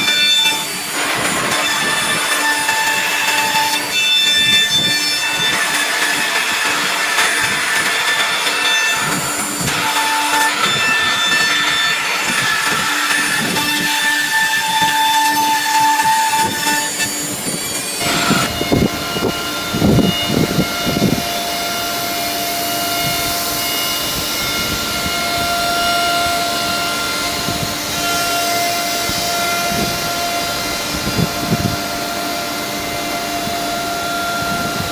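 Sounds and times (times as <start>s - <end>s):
machine noise: 0.0s - 34.9s
router spindle whine: 0.0s - 34.9s.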